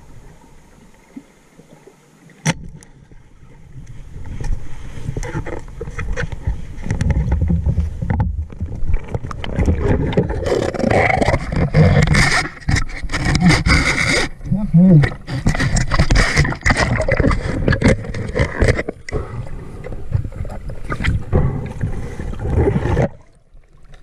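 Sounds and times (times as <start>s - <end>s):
muffled underwater rumble: 2.8s - 23.3s.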